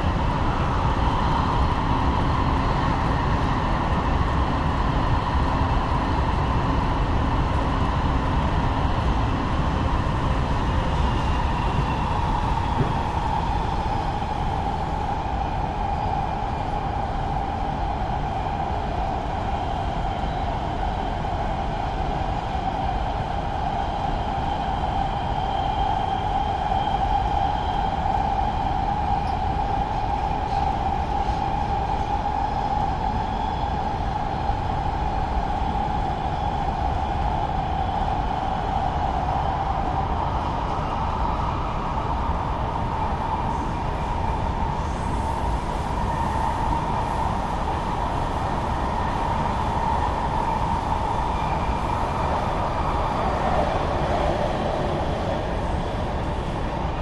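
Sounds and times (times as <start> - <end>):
constant train whine: 0.0 - 57.0
train rumbling on track: 0.0 - 57.0.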